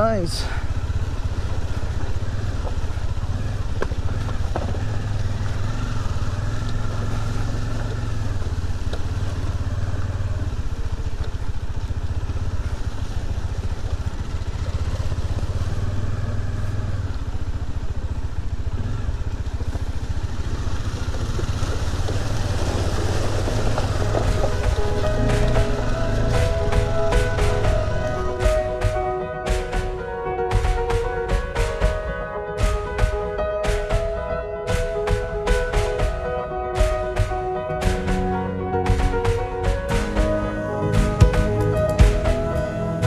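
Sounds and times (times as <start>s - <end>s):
motorcycle engine drone: 0.0s - 43.0s.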